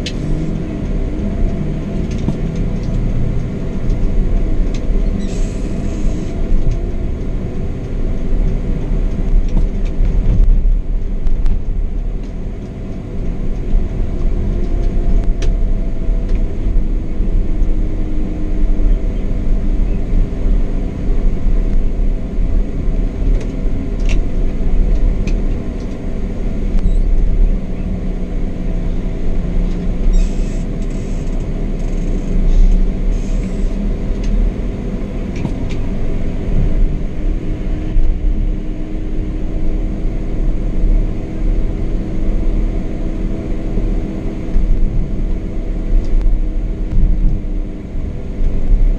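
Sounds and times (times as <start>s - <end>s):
bus road and engine rumble: 0.0s - 48.9s.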